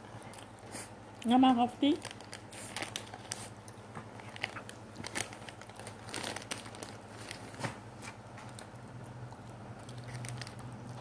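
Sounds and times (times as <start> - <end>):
dog crunching a biscuit: 2.0 - 11.0.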